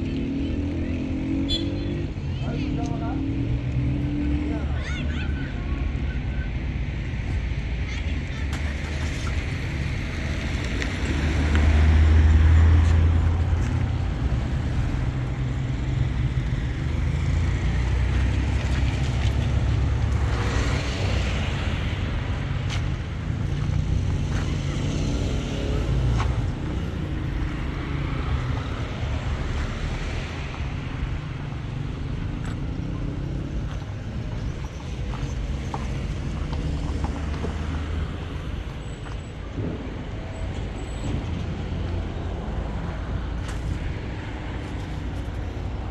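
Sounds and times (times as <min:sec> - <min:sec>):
vehicle engine and road rumble: 0:00.0 - 0:45.9.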